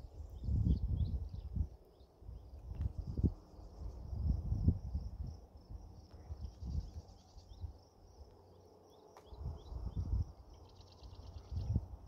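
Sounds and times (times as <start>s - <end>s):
low rumbling wind gusts: 0.0s - 8.4s, 9.3s - 12.0s
insects trilling: 0.2s - 12.0s.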